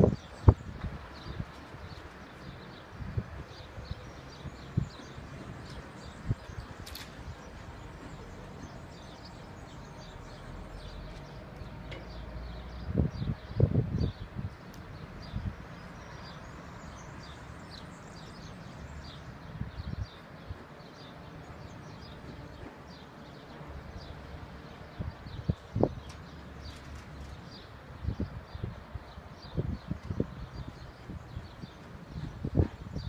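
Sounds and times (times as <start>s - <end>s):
small birds chirping: 0.0s - 33.0s
wind buffeting microphone: 0.0s - 33.0s.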